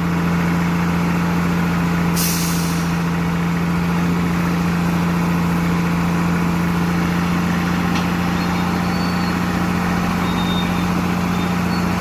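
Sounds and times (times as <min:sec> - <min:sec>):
heavy truck engine humming: 0:00.0 - 0:12.0.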